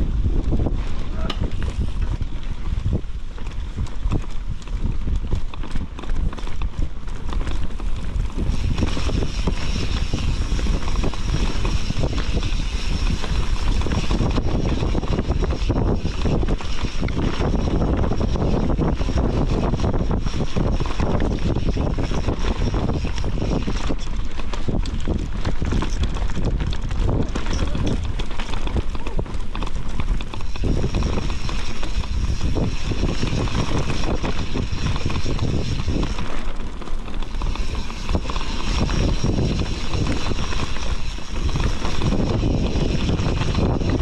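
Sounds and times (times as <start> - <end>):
wind rushing over microphone: 0.0 - 44.0
bike clattering over rough ground: 0.1 - 44.0.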